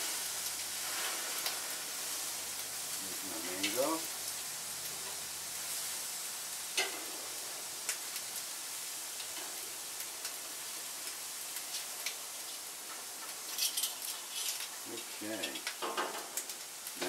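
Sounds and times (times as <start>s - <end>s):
food sizzling on a grill: 0.0s - 17.0s
sharp pops from grill: 0.4s - 2.9s, 3.5s - 5.3s, 6.6s - 8.5s, 9.1s - 17.0s.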